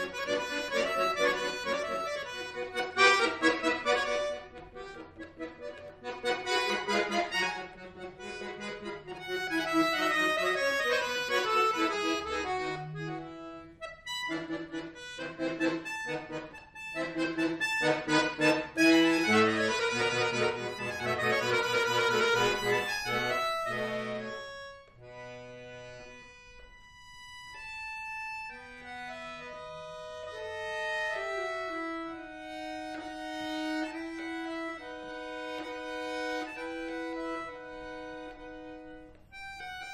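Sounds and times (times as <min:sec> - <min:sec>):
button accordion playing: 0:00.0 - 0:39.9.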